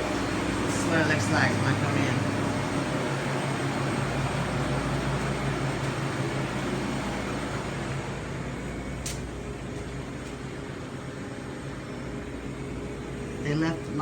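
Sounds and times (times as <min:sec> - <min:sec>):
machinery hum and air rush: 0:00.0 - 0:14.0.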